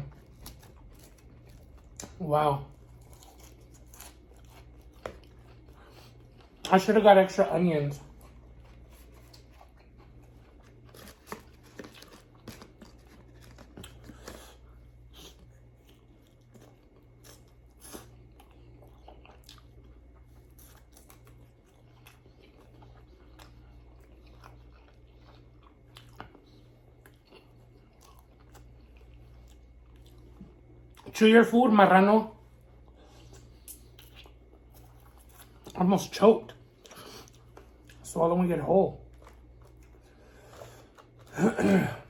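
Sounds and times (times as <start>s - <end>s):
person chewing and crunching food: 0.0s - 31.3s, 32.3s - 42.0s
low steady hum: 0.0s - 42.0s.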